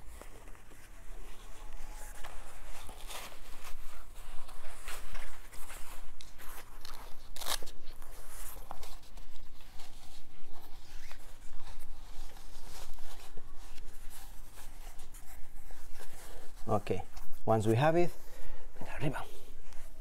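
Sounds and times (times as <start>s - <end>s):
neoprene brace rustling and scuffing: 0.0s - 20.0s.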